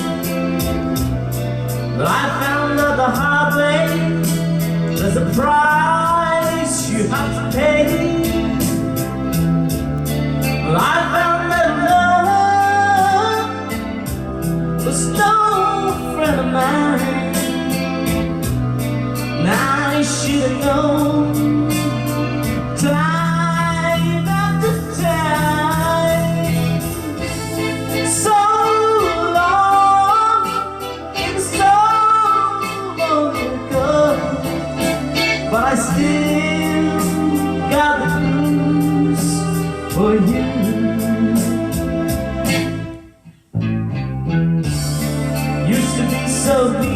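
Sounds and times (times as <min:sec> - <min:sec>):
person singing: 0:00.0 - 0:43.0, 0:44.7 - 0:46.9
karaoke backing track: 0:00.0 - 0:46.9.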